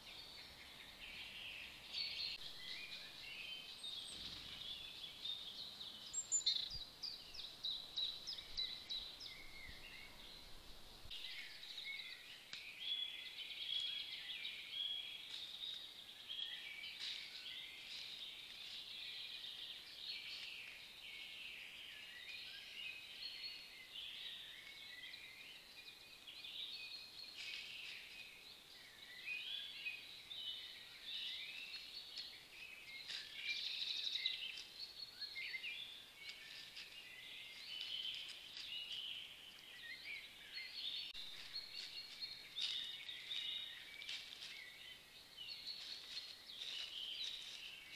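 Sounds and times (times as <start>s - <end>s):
songbird chorus: 0.0s - 47.9s.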